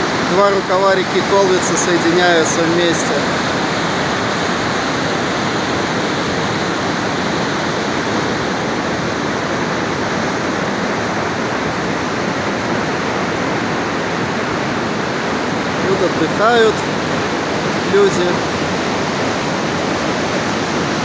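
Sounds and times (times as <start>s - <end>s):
waterfall roaring over rocks: 0.0s - 21.0s.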